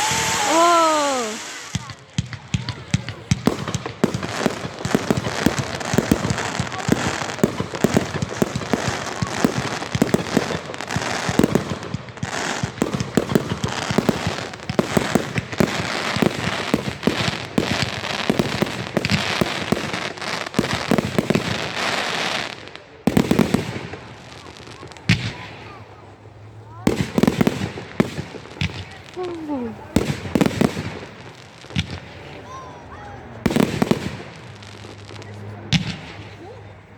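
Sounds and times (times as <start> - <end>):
fireworks cracks and bangs: 0.0 - 36.6.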